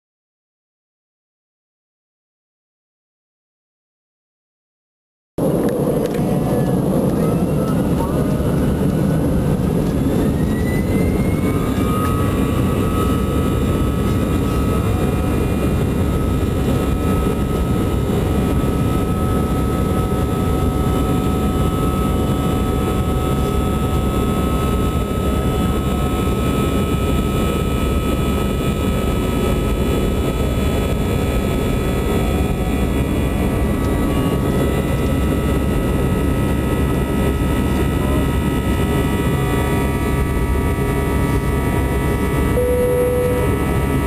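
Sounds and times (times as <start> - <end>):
jet engines whining: 5.4 - 44.0
loud steady rumble: 5.4 - 44.0.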